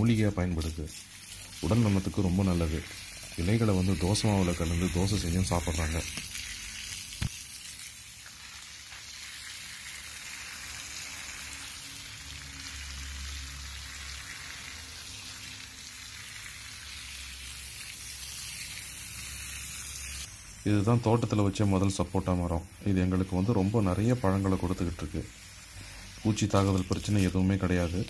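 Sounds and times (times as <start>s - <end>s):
water spraying on plants: 0.0s - 28.0s.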